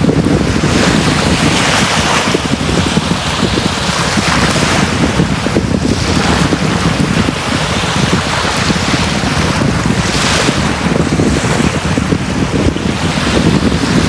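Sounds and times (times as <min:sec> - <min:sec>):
sea waves breaking on beach: 0:00.0 - 0:14.0
wind buffeting microphone: 0:00.0 - 0:14.0.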